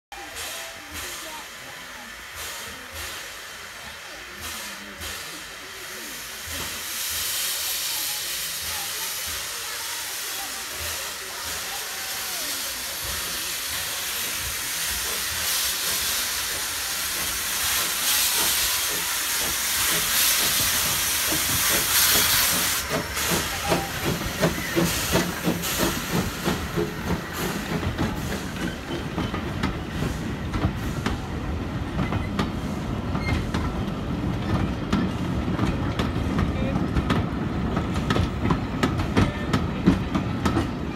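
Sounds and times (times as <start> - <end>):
train rumble: 0.1 - 40.9
steam hissing from cylinder cocks: 0.2 - 40.8.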